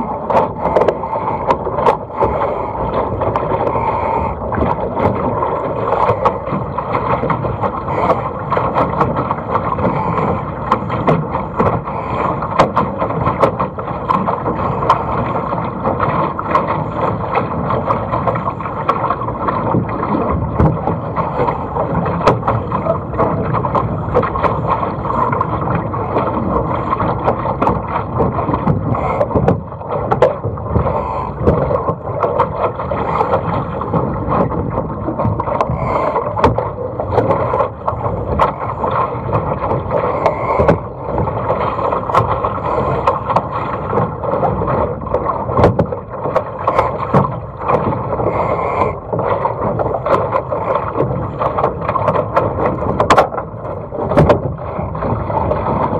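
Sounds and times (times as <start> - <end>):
water rushing along a hull: 0.0 - 55.9.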